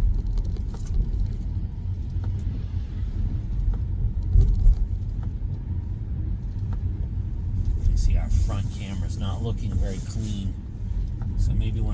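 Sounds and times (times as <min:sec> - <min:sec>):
road and tyre rumble: 0:00.0 - 0:11.9.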